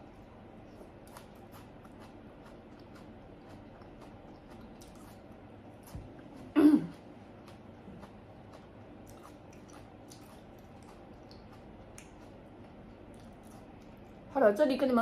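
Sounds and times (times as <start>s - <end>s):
person chewing food: 0.1s - 14.3s.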